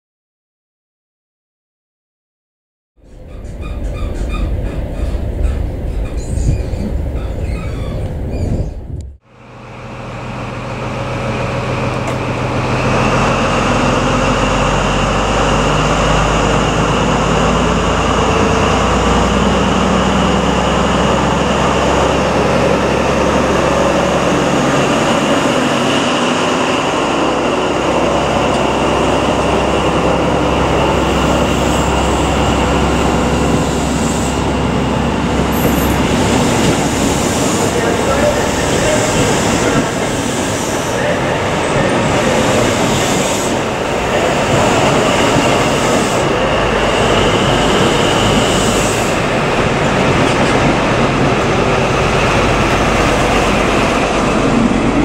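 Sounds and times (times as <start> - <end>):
diesel engine high whine: 3.0 - 55.0
train coaches rumbling and rattling: 3.0 - 55.0.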